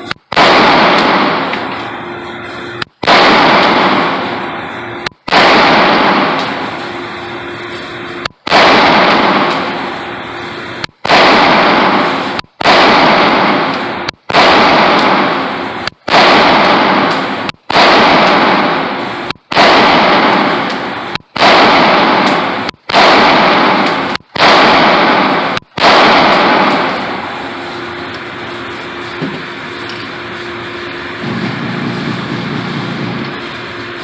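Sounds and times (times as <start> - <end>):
pistol shots echoing indoors: 0.0 - 34.0.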